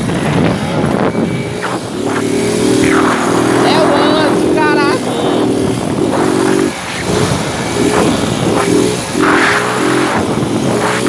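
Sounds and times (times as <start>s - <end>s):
small motorcycle engines running: 0.0s - 11.0s.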